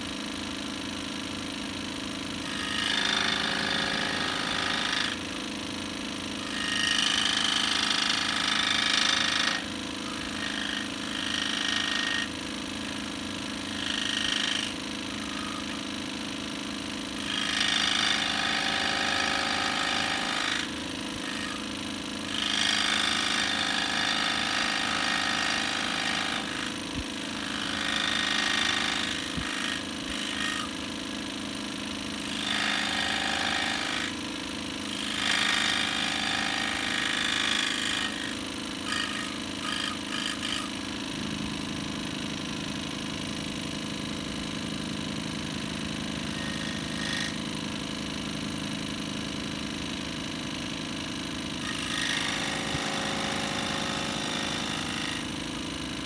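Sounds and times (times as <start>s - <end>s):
scroll saw buzzing: 0.0s - 56.0s
saw rasping through wood: 2.4s - 41.8s, 46.1s - 47.9s, 51.6s - 55.6s.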